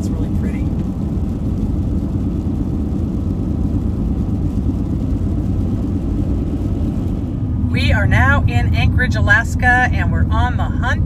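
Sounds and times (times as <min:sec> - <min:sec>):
van engine and tyres rumbling: 0:00.0 - 0:11.0.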